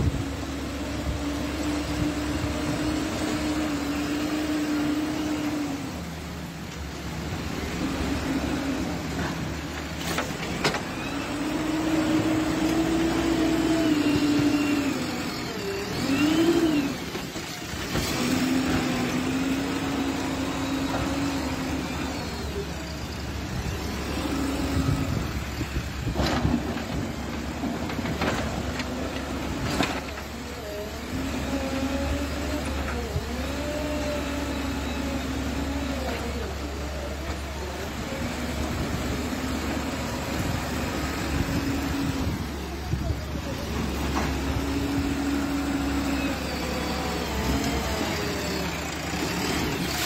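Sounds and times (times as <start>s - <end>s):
diesel engine revving under load: 0.0s - 50.0s.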